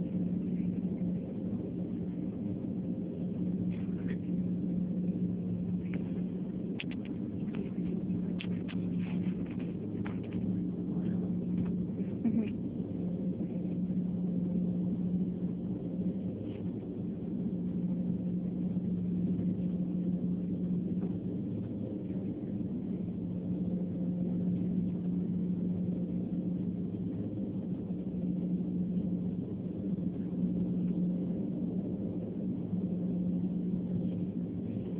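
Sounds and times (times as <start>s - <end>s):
airliner cabin hum and drone: 0.0s - 34.9s.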